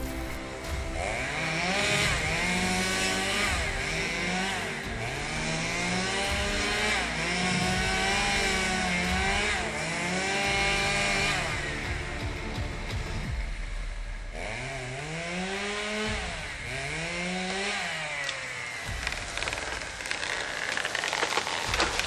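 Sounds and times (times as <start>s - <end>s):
chainsaw engine revving: 0.0s - 13.2s, 14.3s - 22.0s.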